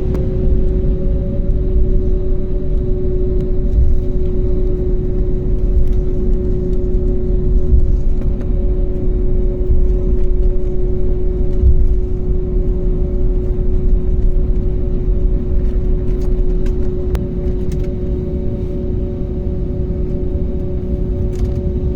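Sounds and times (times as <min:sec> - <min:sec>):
airliner cabin engine rumble: 0:00.0 - 0:21.9.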